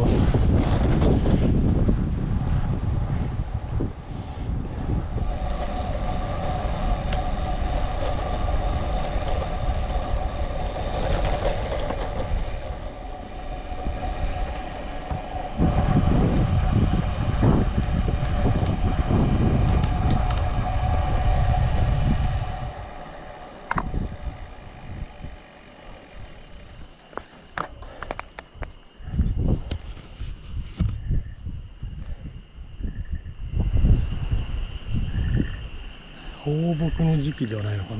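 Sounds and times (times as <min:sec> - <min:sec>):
steady high whine: 0:00.0 - 0:37.9
wind buffeting microphone: 0:00.0 - 0:37.9.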